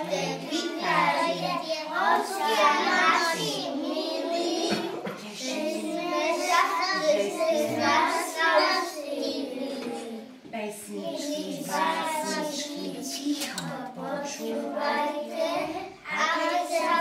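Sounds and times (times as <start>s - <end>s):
young children singing: 0.0s - 10.3s, 11.0s - 17.0s.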